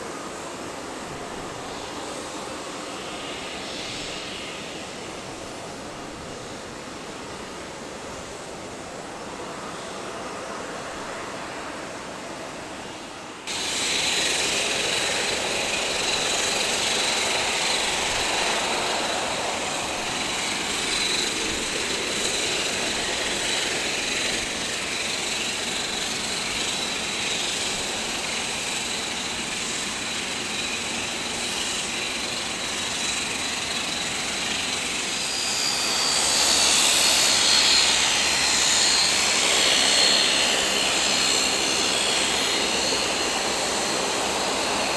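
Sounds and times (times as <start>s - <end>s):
turboprop engines whining: 0.0s - 44.9s.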